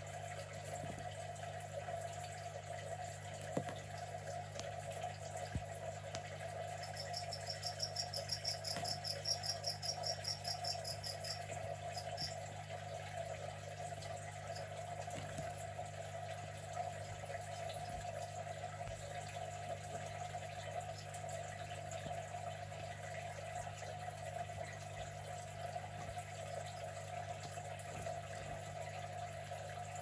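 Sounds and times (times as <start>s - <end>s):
small pump humming: 0.0s - 30.0s.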